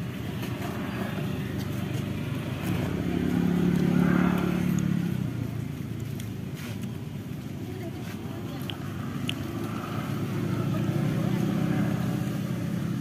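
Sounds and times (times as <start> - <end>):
roadside traffic hum: 0.0 - 13.0
vehicle engine passing: 0.0 - 13.0.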